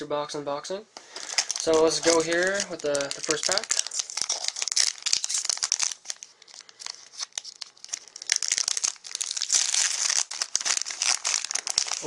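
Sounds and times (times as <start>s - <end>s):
foil wrapper crinkling and tearing: 1.1s - 12.0s.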